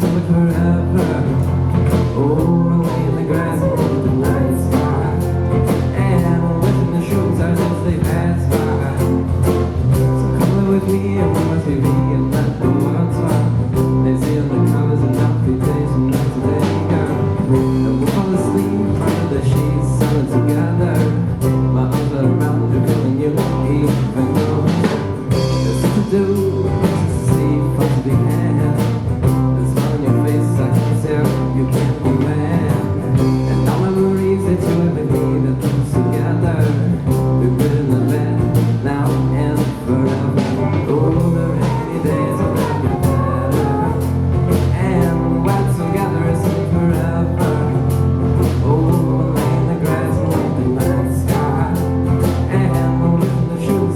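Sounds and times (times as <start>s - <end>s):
live band playing: 0.0s - 53.9s
person singing: 0.0s - 53.9s.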